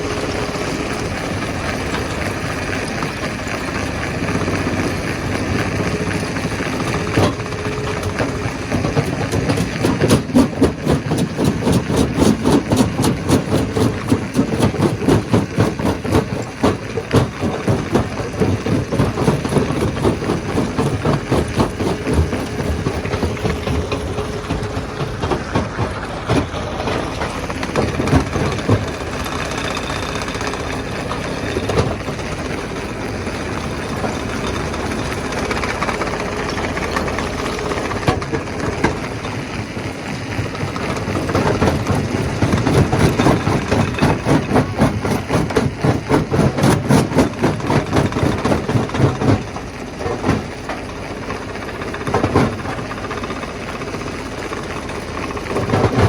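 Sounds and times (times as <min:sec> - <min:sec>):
stone crusher machinery running: 0:00.0 - 0:56.0.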